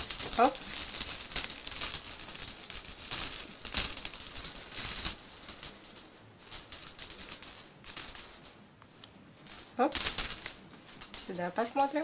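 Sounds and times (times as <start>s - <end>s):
cat toy jingling and rattling: 0.0s - 12.0s.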